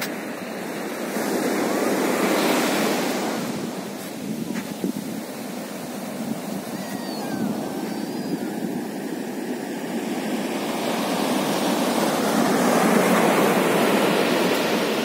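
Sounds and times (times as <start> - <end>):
ocean waves breaking on sand: 0.0 - 15.0.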